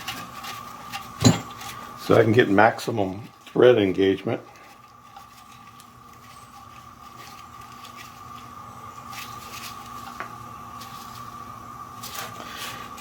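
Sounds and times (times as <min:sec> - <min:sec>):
threaded rod scratching and rubbing: 0:00.0 - 0:11.4
steady high hum: 0:00.0 - 0:13.0.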